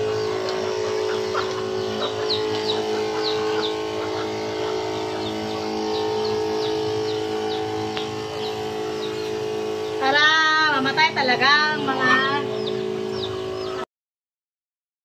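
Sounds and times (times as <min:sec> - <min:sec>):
chicks peeping: 0:00.0 - 0:13.9
steady hum: 0:00.0 - 0:13.9.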